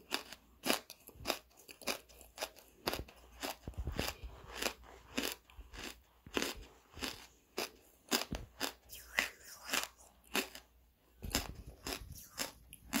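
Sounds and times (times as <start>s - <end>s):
charcoal crunching while chewed: 0.0s - 13.0s.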